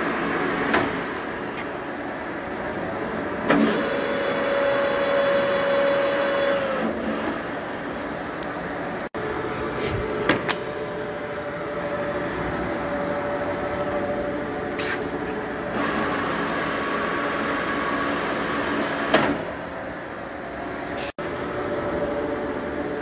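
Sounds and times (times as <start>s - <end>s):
lathe mechanical whine: 0.0s - 19.0s.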